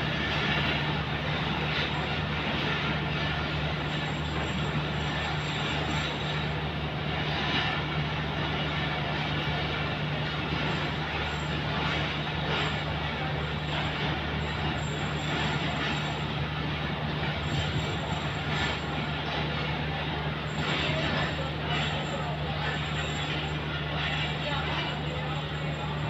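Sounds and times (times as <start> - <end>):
diesel engine drone: 0.0 - 26.0
train wheels rumbling on track: 0.0 - 26.0.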